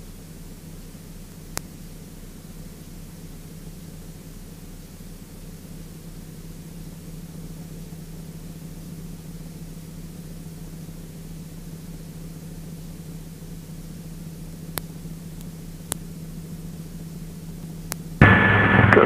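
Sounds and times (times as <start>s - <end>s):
light aircraft engine drone: 0.0s - 19.0s.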